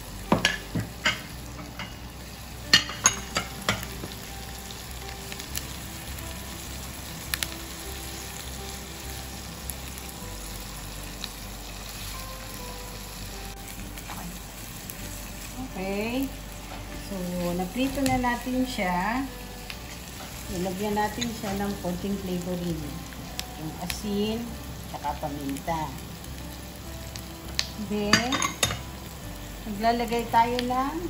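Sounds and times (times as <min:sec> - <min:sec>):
pork sizzling in a pan: 0:00.0 - 0:31.0.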